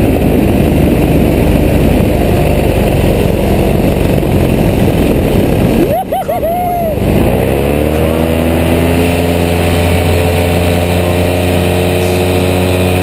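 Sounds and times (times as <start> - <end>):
paramotor engine running: 0.0 - 13.0
wind noise: 0.0 - 13.0.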